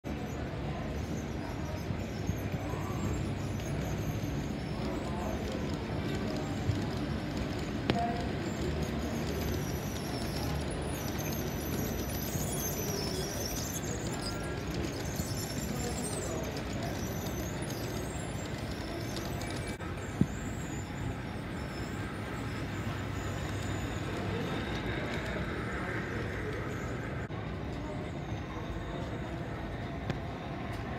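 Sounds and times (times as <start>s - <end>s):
model train wheels rumbling on track: 0.1s - 30.9s.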